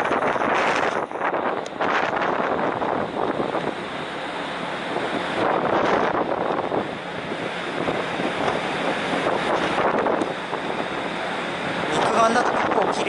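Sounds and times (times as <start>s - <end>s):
sea wash: 0.0s - 13.0s
wind rushing over microphone: 0.0s - 13.0s.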